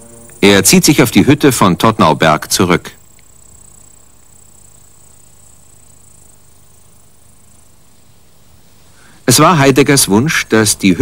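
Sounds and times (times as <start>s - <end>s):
high-pitched insect song: 0.0s - 11.0s
low background hum: 0.0s - 11.0s.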